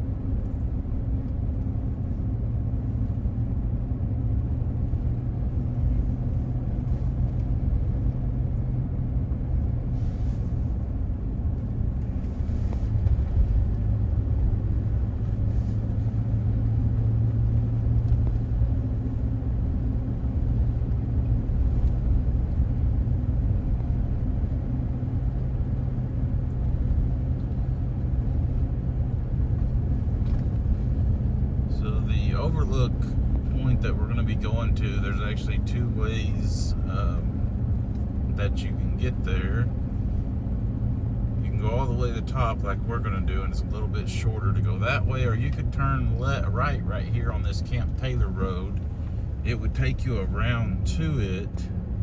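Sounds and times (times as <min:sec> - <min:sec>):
car engine and tyre drone: 0:00.0 - 0:52.0.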